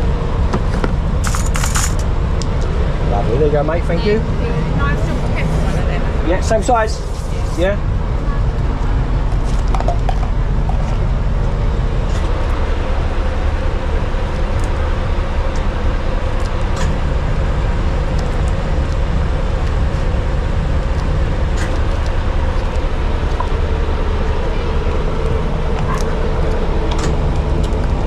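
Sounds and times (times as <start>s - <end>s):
van engine rumbling: 0.0s - 28.0s.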